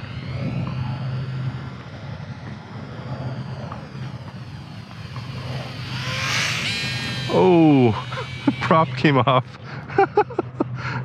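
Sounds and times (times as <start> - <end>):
model plane propeller whining: 0.0 - 11.0.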